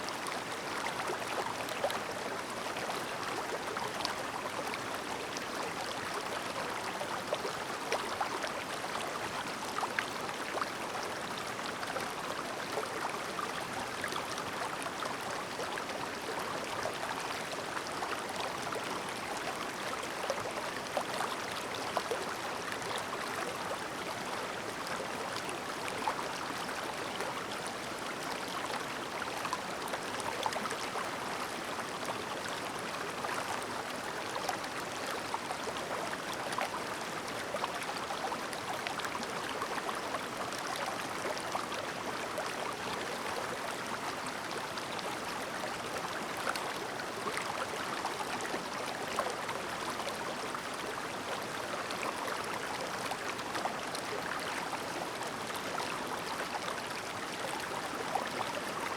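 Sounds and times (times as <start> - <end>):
stream babbling: 0.1 - 58.9.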